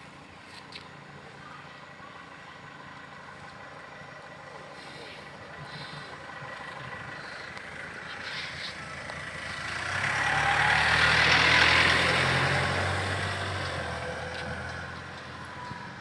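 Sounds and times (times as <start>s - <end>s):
motor vehicle passing by: 2.0s - 16.0s.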